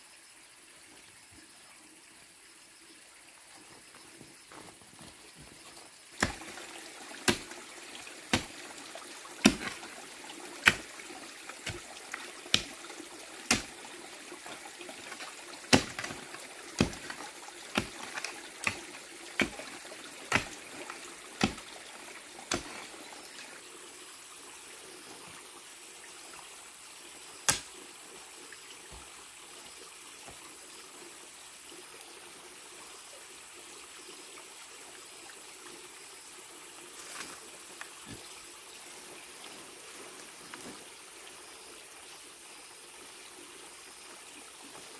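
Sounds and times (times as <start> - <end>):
stream water running: 0.0 - 44.9.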